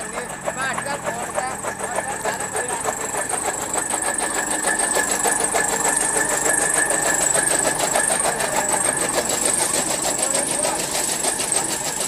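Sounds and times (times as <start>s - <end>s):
chaff cutter chopping stalks: 0.0s - 12.0s.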